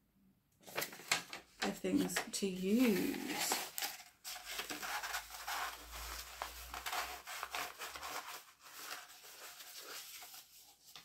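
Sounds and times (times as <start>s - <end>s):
paper scroll rustling: 0.6s - 11.0s.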